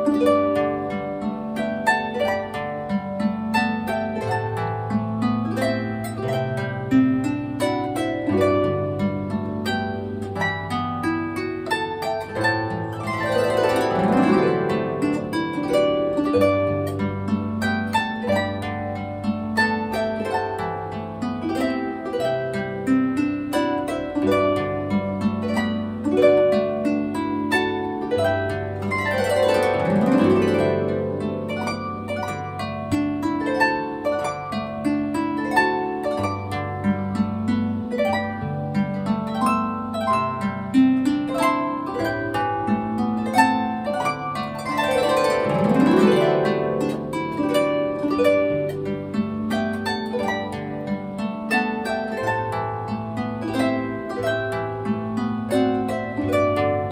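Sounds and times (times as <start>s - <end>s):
harp glissando: 0.0s - 56.9s
harp melody: 0.0s - 56.9s.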